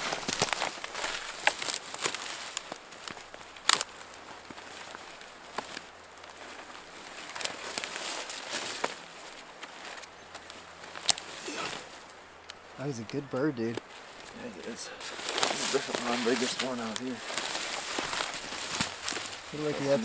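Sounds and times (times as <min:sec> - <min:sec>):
footsteps crackling and rustling: 0:00.0 - 0:20.0.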